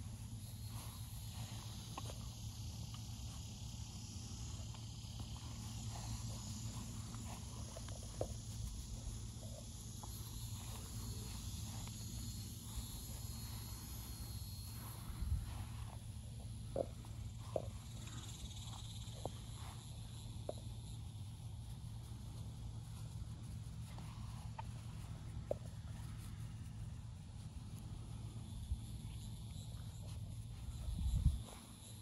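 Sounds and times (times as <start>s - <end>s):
insect chirr: 0.0s - 32.0s
low hum: 0.0s - 32.0s.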